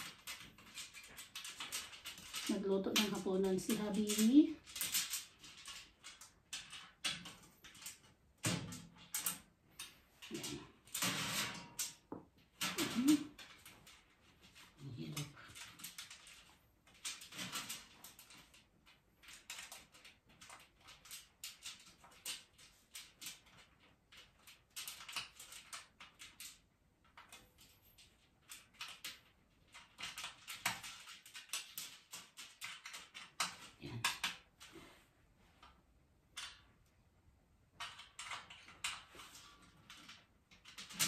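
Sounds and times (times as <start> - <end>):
metal trolley parts clicking: 0.0 - 34.8, 37.8 - 41.0.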